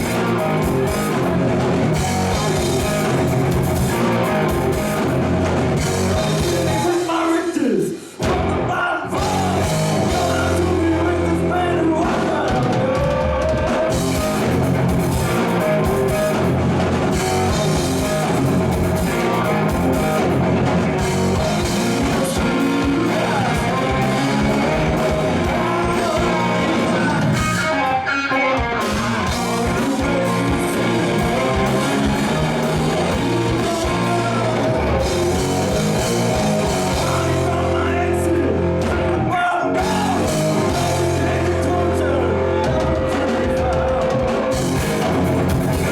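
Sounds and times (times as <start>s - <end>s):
electric guitar: 0.0s - 7.4s, 8.2s - 45.9s
drum kit: 0.0s - 45.9s
person singing: 5.8s - 16.5s, 17.1s - 20.4s, 21.0s - 45.9s.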